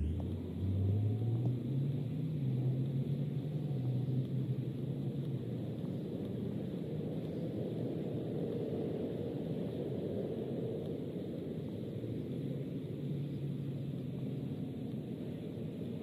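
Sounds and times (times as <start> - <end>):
distant engine hum: 0.0 - 16.0
low outdoor rumble: 0.0 - 16.0.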